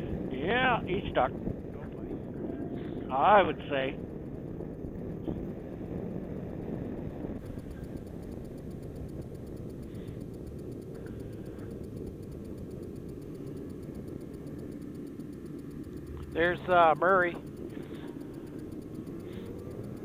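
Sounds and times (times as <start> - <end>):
snowmobile engine rumbling: 0.0 - 20.0.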